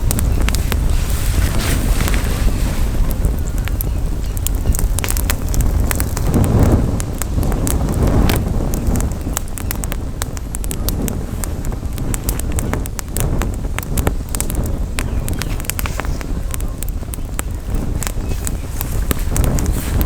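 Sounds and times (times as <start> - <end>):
campfire crackling and popping: 0.0 - 20.0
wind rumble on microphone: 0.0 - 20.0.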